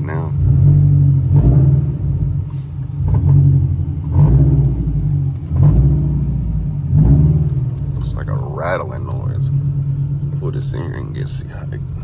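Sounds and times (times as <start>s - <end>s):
car engine running at low rpm: 0.0s - 12.0s
exhaust rattle: 0.0s - 12.0s.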